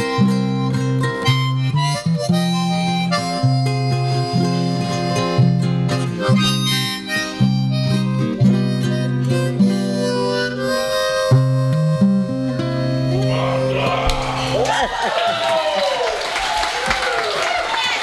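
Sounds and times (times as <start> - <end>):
harmonica playing chords: 0.0 - 14.7.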